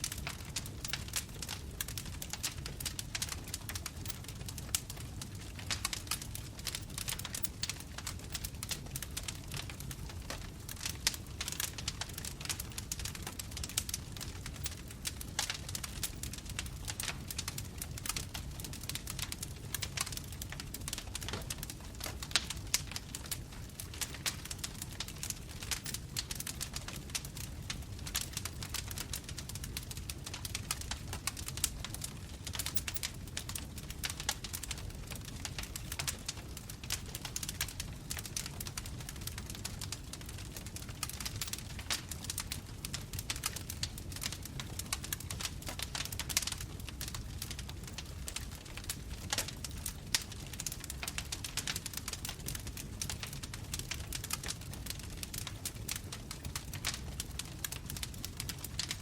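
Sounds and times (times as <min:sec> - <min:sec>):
bonfire crackling and popping: 0:00.0 - 0:59.0.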